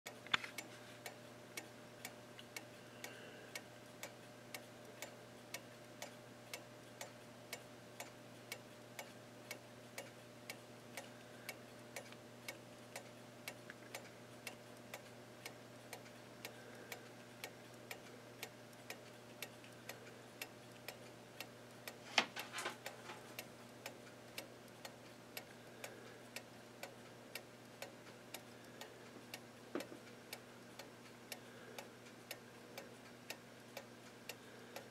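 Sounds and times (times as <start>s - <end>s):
clock ticking: 0.1s - 22.0s, 22.8s - 34.9s.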